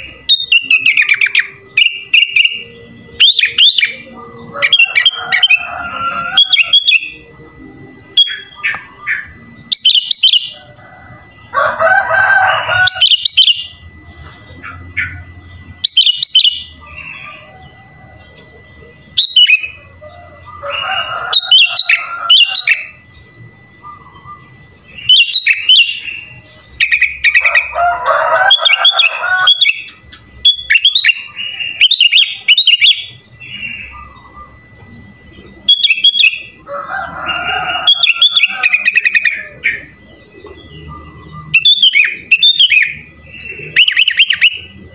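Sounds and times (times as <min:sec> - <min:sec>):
bulbul singing: 0:00.0 - 0:44.9
faint steady high tone: 0:00.0 - 0:44.9.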